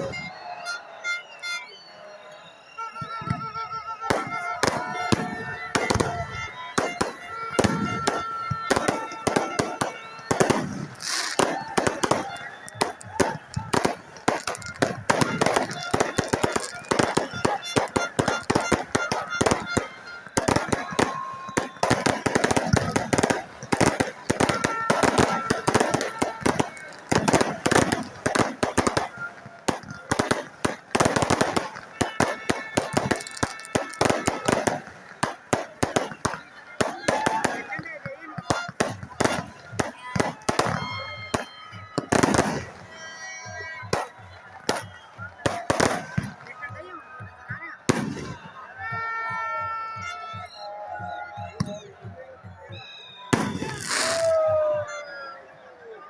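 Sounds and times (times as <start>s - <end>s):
fireworks bangs and cracks: 2.3s - 52.6s, 53.2s - 55.0s.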